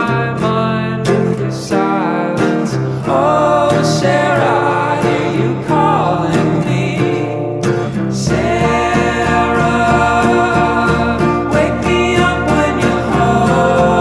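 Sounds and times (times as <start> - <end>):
man singing over guitar: 0.0 - 14.0.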